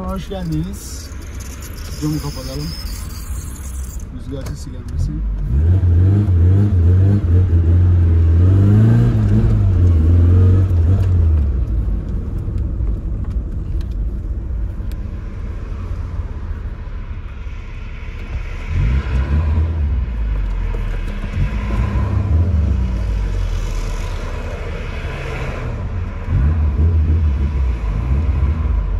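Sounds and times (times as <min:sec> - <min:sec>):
car engine revving: 0:00.7 - 0:28.9.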